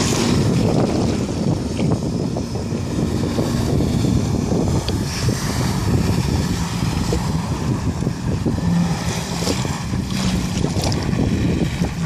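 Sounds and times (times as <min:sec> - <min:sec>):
jet ski engine running: 0:00.0 - 0:12.0
rushing water spray: 0:00.0 - 0:12.0
wind buffeting microphone: 0:00.0 - 0:12.0.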